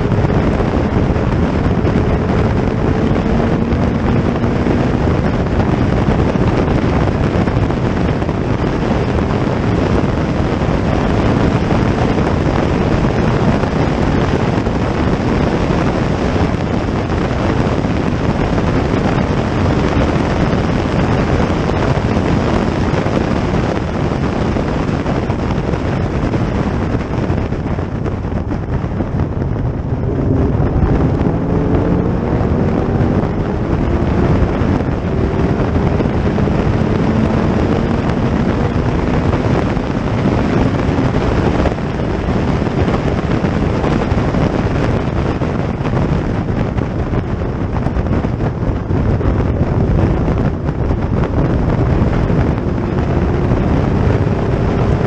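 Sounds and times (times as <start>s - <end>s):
racing car engine accelerating: 0.0s - 55.0s
wind noise on microphone: 0.0s - 55.0s.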